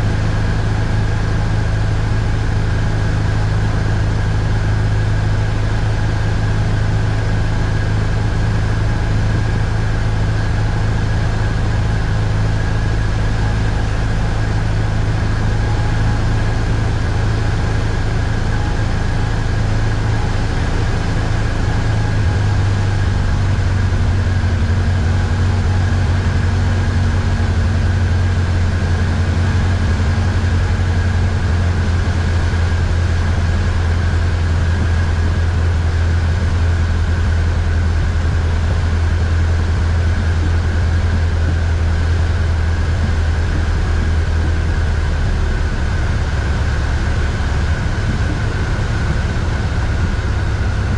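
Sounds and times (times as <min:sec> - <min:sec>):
light aircraft engine droning: 0:00.0 - 0:50.9.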